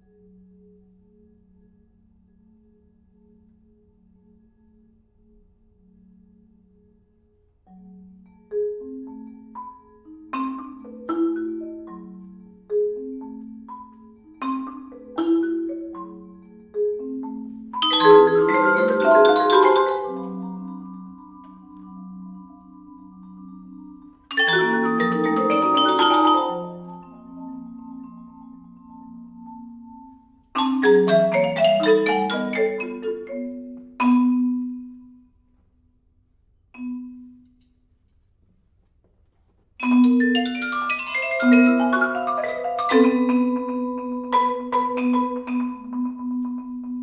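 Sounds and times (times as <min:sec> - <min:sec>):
vibraphone and marimbas playing: 0:00.0 - 0:35.4, 0:36.8 - 0:37.8, 0:39.8 - 0:47.0.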